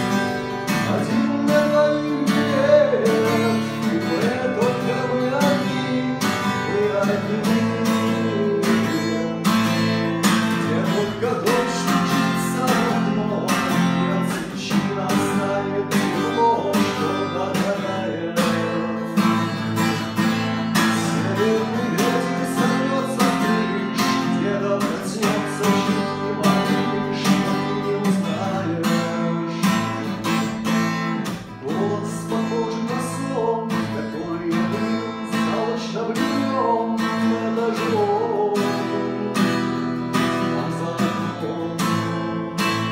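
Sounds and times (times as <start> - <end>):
acoustic guitar strumming: 0.0 - 42.9
man singing: 0.0 - 42.9.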